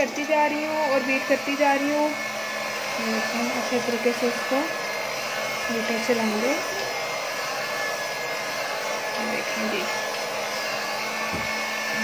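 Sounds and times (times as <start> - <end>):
electric hand mixer whining: 0.0 - 12.0.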